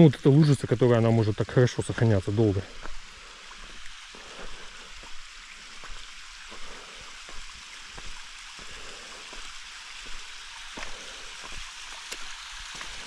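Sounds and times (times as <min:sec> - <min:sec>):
water trickling over rock: 0:00.0 - 0:13.0.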